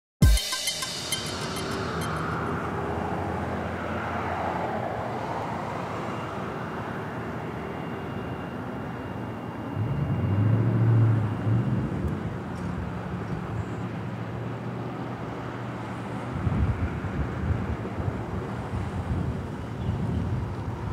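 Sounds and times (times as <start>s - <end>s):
loud car engine: 0.9s - 7.7s, 8.7s - 19.3s
passing cars road noise: 0.9s - 20.9s.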